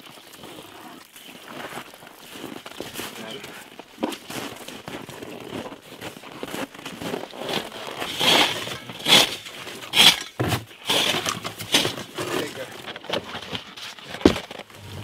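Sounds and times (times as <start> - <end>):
crabs crunching and scraping in tote: 0.0 - 15.0.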